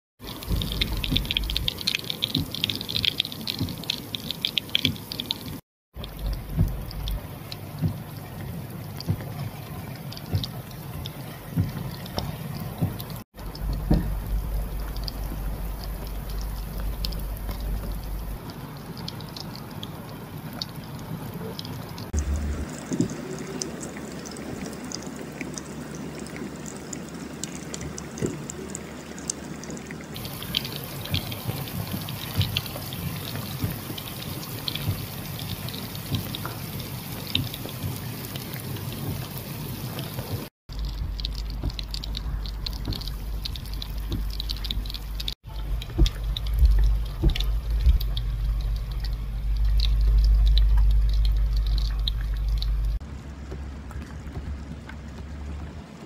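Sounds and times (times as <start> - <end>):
flood water rushing over stones: 0.2 - 56.0
heavy rain pouring: 0.2 - 56.0.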